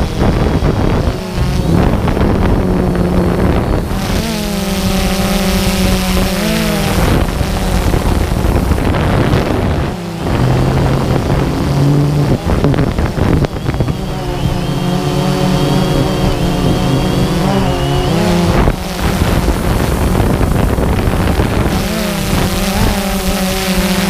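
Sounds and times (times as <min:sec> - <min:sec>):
drone motors humming: 0:00.0 - 0:24.0
wind on microphone: 0:00.0 - 0:24.0.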